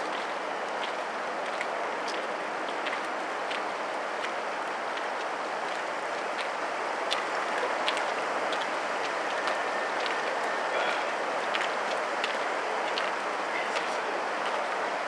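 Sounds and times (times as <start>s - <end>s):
distant freight train rolling: 0.0s - 15.0s.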